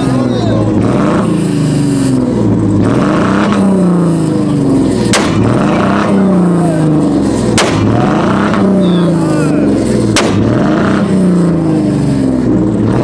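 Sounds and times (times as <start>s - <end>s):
car engine revving: 0.0s - 13.0s
exhaust backfire bangs: 0.7s - 13.0s.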